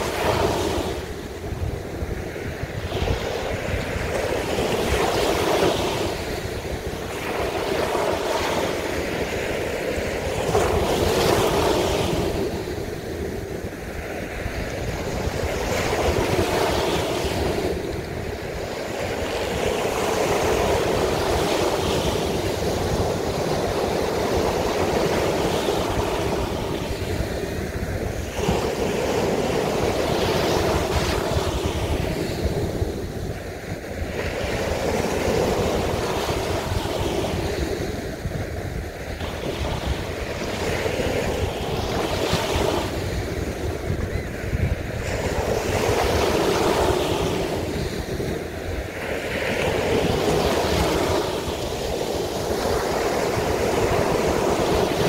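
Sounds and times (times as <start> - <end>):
sea surf breaking on beach: 0.0 - 55.0
wind rumbling on microphone: 0.0 - 55.0.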